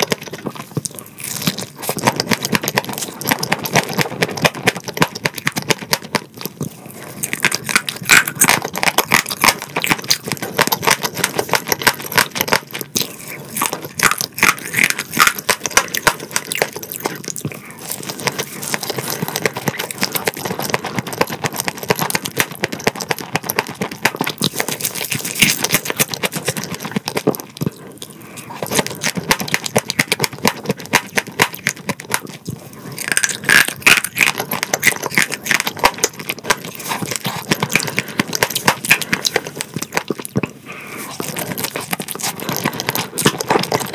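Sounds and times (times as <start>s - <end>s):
crunching crispy food: 0.0s - 43.9s.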